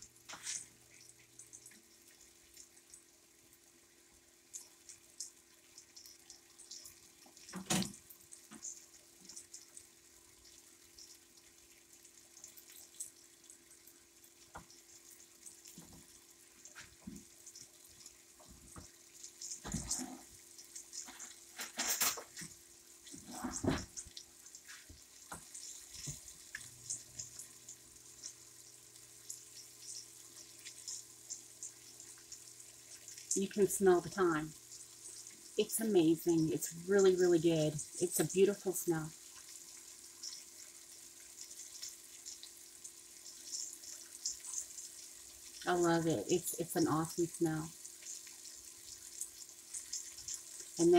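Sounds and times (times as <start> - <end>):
chicken sizzling in oil: 0.0 - 50.9.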